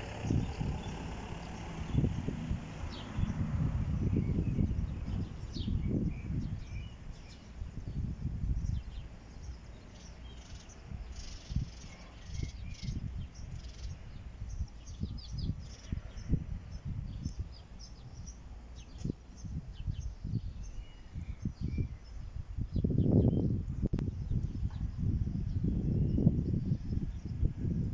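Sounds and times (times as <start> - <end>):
small birds chirping: 0.0 - 27.9
wind rumble on microphone: 0.0 - 27.9.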